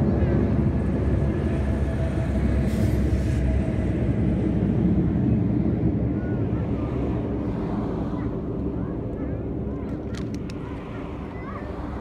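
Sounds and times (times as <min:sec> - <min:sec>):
distant jet engine rumble: 0:00.0 - 0:12.0.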